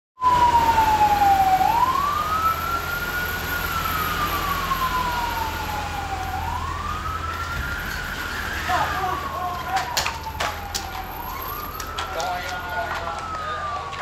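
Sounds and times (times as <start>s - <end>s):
fire engine siren wailing: 0.2s - 14.0s.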